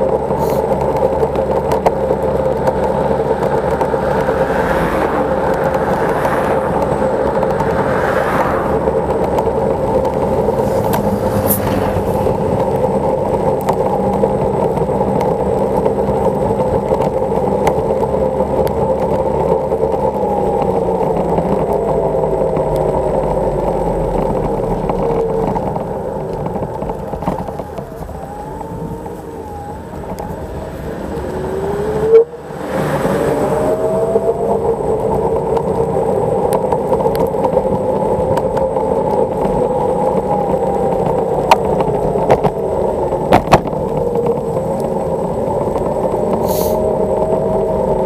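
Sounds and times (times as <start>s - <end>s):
electric scooter motor hum: 0.0s - 48.0s
tyre and wind noise: 0.0s - 48.0s.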